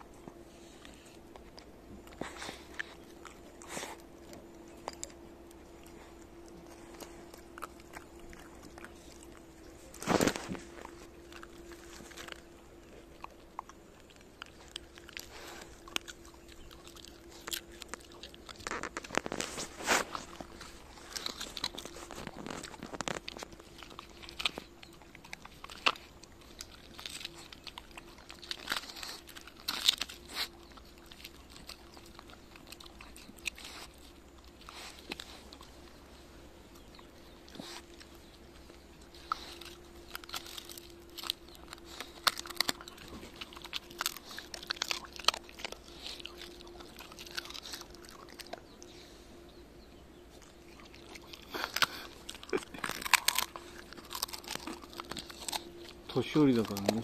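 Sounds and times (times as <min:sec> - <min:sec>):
dog crunching bones: 0:00.0 - 0:49.2, 0:49.8 - 0:57.0.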